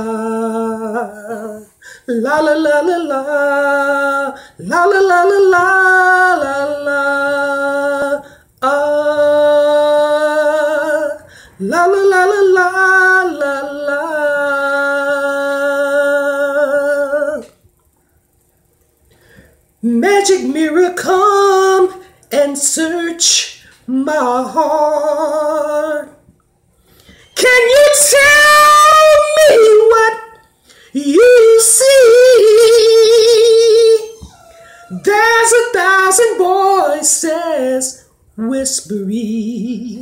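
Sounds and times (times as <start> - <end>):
man singing unaccompanied: 0.0 - 17.6, 19.8 - 26.2, 27.2 - 30.4, 31.0 - 40.0.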